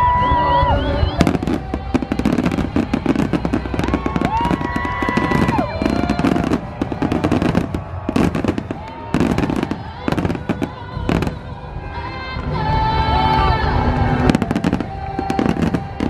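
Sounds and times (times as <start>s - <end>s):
fireworks crackling and banging: 0.0s - 13.0s, 13.8s - 16.0s.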